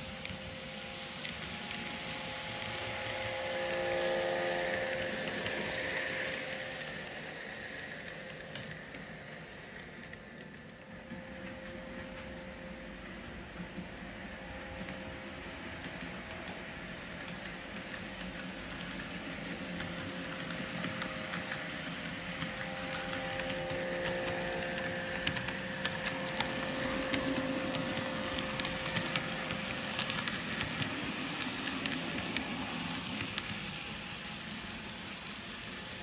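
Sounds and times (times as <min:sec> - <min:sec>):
model train motor hum: 0:00.0 - 0:36.0
wheels clicking over track: 0:00.0 - 0:36.0.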